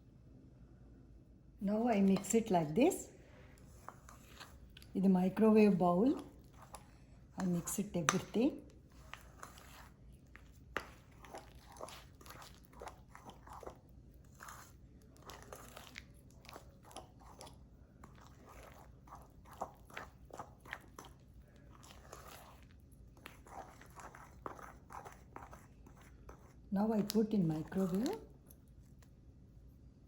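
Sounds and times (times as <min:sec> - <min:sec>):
spoon scraping thick mixture: 0:01.6 - 0:29.8.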